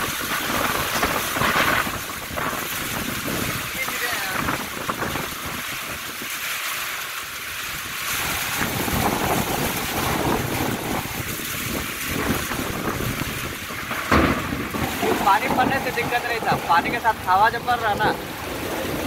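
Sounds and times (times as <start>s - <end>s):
storm wind gusting: 0.0s - 6.5s, 7.2s - 19.0s
rain: 0.0s - 19.0s.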